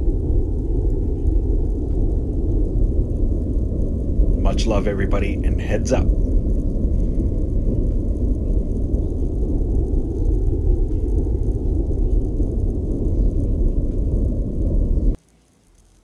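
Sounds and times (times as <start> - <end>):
deep low rumble: 0.0 - 15.2.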